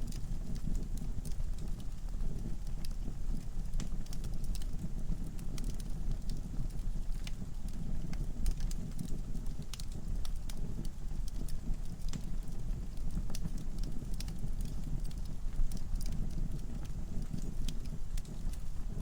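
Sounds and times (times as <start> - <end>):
wood logs burning and crackling: 0.0 - 19.0.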